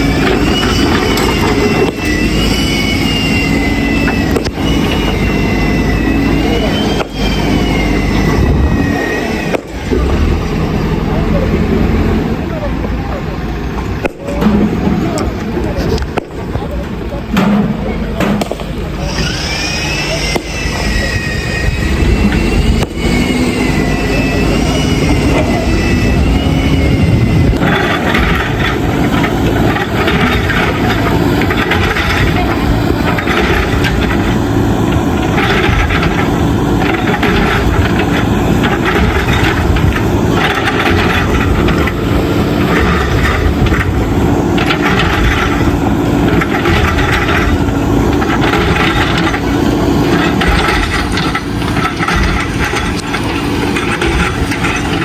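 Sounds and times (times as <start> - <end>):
diesel engine running under load: 0.0 - 55.0
high engine whine: 0.0 - 55.0.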